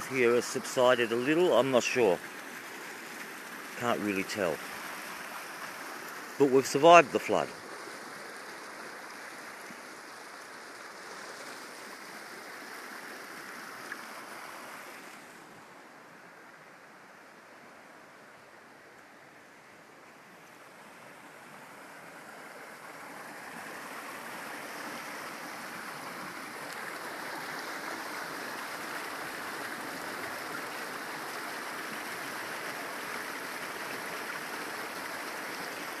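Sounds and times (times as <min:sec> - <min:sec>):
floodwater rushing in a creek: 0:00.0 - 0:36.0.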